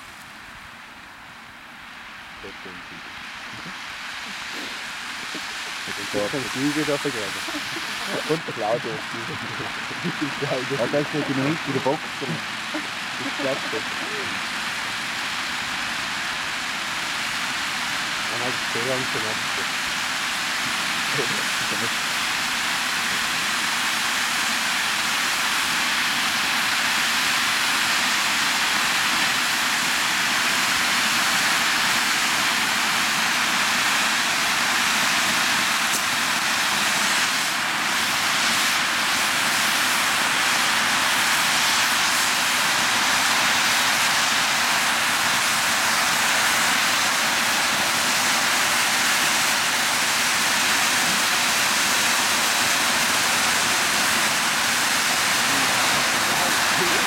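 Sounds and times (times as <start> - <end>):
firework fountains hissing: 0.0 - 57.0.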